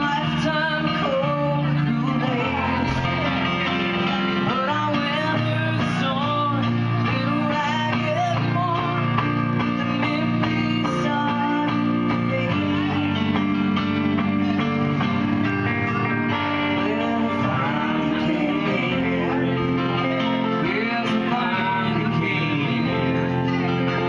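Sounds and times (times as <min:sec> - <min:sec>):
electric guitar: 0:00.0 - 0:24.0.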